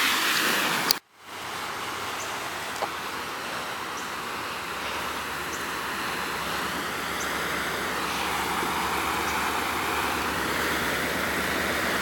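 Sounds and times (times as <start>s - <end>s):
car splashing through floodwater: 0.0s - 12.0s.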